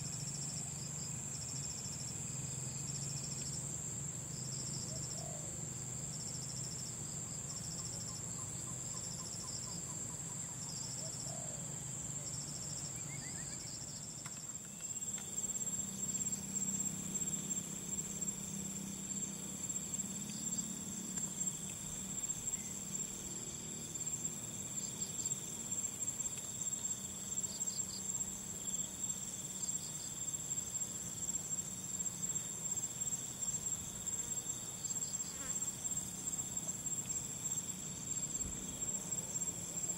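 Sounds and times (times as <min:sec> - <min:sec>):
insect chirping in pulses: 0:00.0 - 0:39.9
insects trilling: 0:00.0 - 0:39.9.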